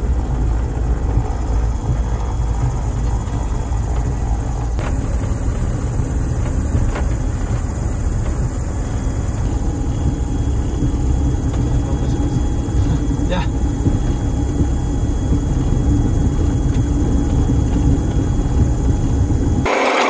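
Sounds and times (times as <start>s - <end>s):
aircraft engines droning: 0.0s - 19.7s.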